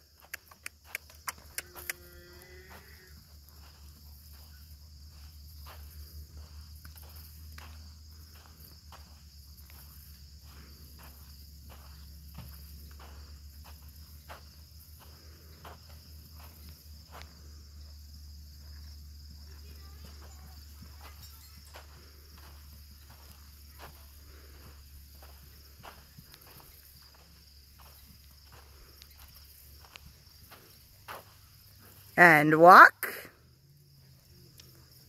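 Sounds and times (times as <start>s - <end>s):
hooves trotting on sand: 0.0s - 32.2s
insects chirring: 0.0s - 35.0s.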